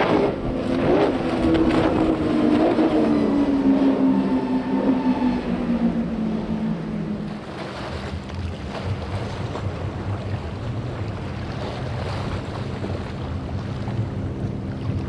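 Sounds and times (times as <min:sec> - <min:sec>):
boat outboard engines droning: 0:00.0 - 0:15.0
surf: 0:00.0 - 0:15.0.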